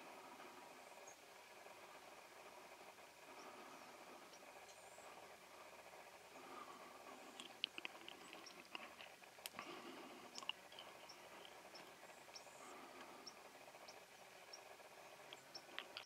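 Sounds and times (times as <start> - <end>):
faint clicks and ticks: 0.0 - 16.0.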